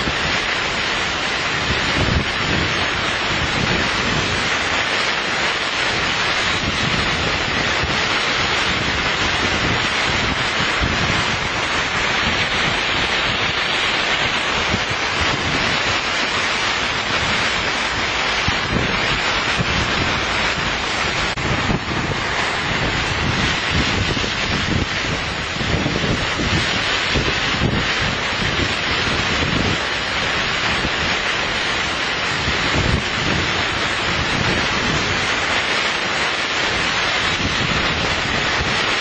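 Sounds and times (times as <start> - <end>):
heavy rain pouring: 0.0 - 39.0
wind buffeting microphone: 0.0 - 39.0.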